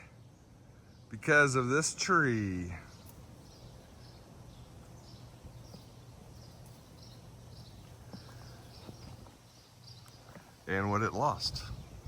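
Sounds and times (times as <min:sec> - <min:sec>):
faint low hum: 0:00.0 - 0:12.0
small bird chirping: 0:00.0 - 0:12.0.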